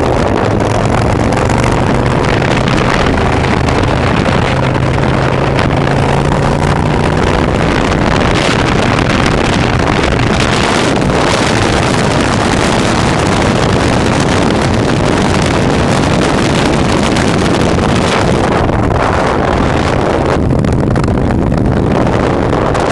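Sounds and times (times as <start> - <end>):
motorcycle engine humming: 0.0 - 22.9
wind noise on microphone: 0.0 - 22.9.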